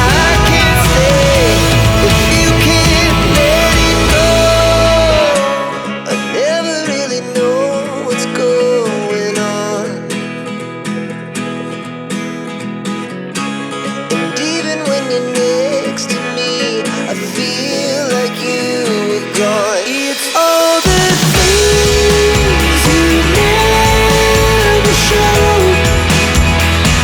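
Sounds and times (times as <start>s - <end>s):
background music with guitar: 0.0s - 27.0s.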